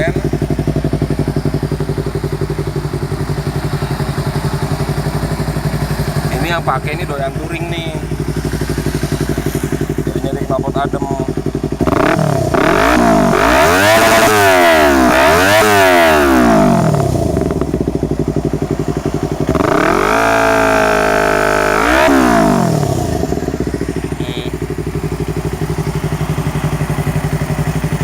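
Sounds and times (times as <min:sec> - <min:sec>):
motorcycle engine revving and idling: 0:00.0 - 0:28.0.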